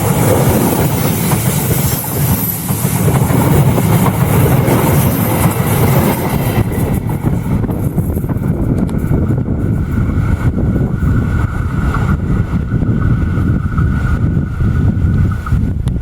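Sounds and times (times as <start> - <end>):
train wheels hissing: 0.0 - 15.5
train cars rumbling on track: 0.0 - 16.0.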